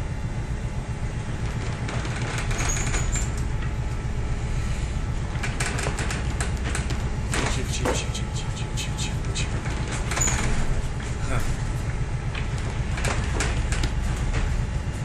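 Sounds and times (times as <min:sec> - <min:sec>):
ship engine droning: 0:00.0 - 0:15.0.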